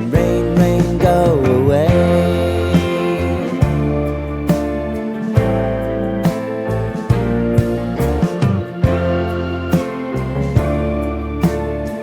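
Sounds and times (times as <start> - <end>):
person singing: 0.0 - 12.0
pop music with guitar and drums: 0.0 - 12.0.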